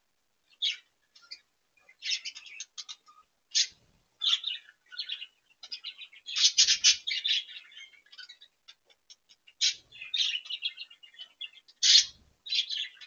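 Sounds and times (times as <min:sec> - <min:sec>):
budgerigars chattering: 0:00.6 - 0:13.0.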